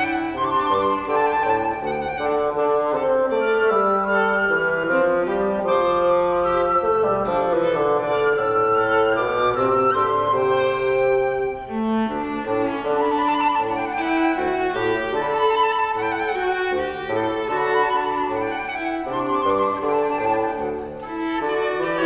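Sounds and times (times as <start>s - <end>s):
flute violin and bassoon trio: 0.0s - 22.0s.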